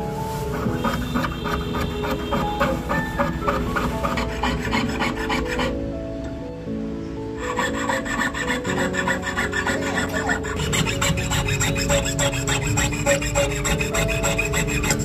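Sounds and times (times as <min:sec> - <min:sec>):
soft background music: 0:00.0 - 0:15.0
saw cutting thin metal: 0:00.5 - 0:05.7, 0:07.4 - 0:15.0.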